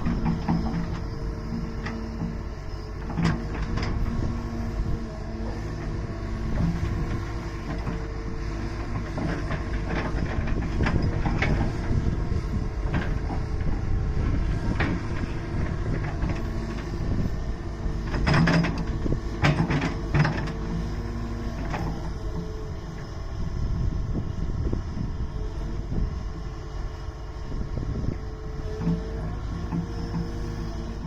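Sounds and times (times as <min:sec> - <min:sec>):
excavator engine running: 0:00.0 - 0:31.0.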